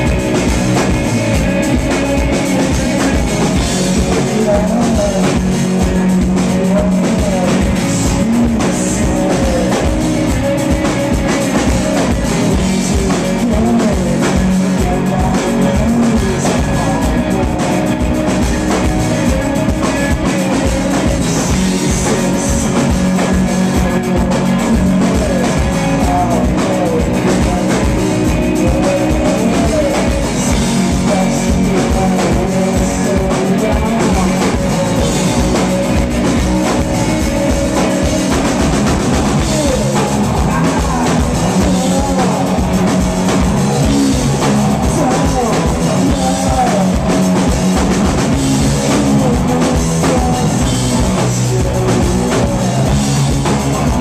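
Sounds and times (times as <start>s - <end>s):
drum kit: 0.0s - 54.0s
electric guitars: 0.0s - 54.0s
live rock band: 0.0s - 54.0s.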